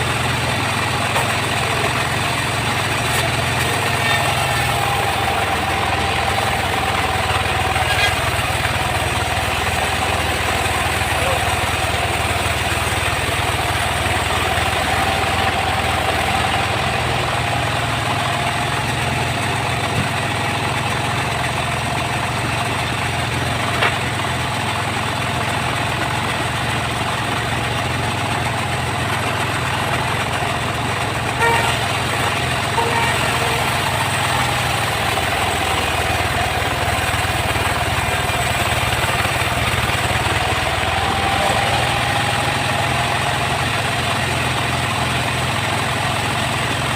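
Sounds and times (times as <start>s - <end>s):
saw rig engine drone and whine: 0.0s - 46.9s.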